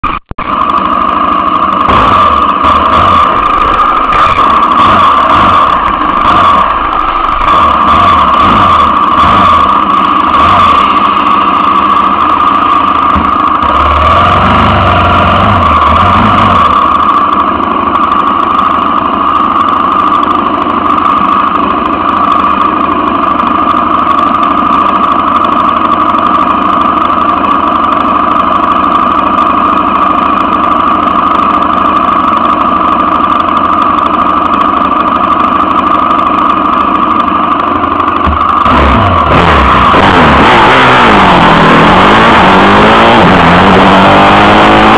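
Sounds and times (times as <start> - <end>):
motorcycle engine idling: 0.0 - 40.8.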